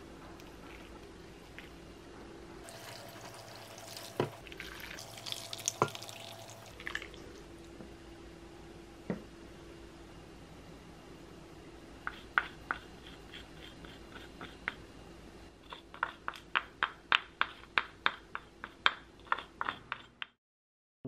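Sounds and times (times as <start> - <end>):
faint steady hum: 0.0 - 20.1.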